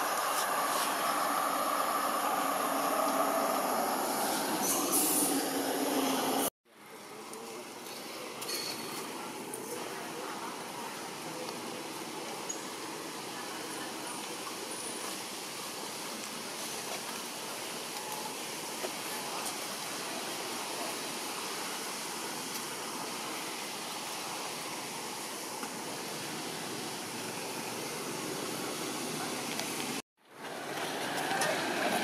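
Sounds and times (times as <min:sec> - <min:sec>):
outdoor background hiss: 0:00.0 - 0:31.9.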